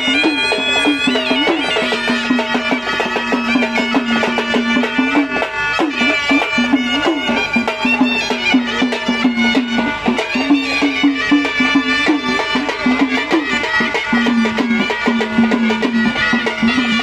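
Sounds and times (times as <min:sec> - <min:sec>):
fast stick-beaten drumming: 0:00.0 - 0:17.0.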